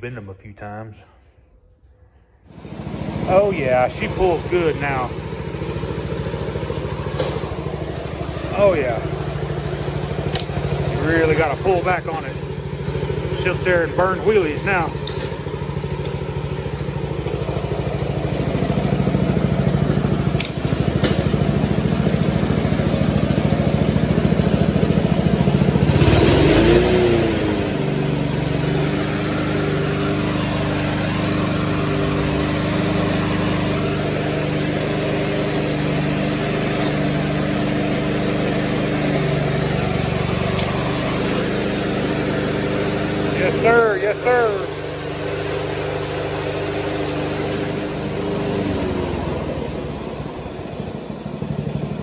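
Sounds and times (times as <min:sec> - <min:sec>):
lawn mower engine running: 0:02.5 - 0:52.0.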